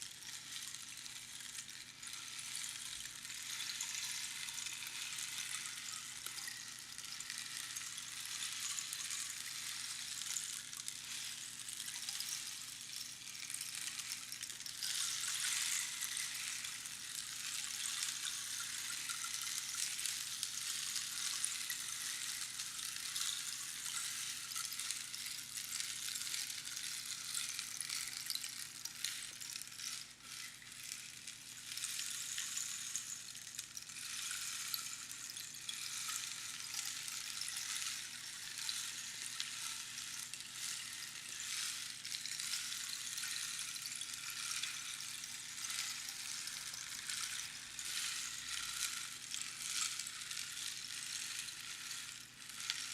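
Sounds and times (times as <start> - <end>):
rainstick pebbles trickling: 0.0 - 52.9.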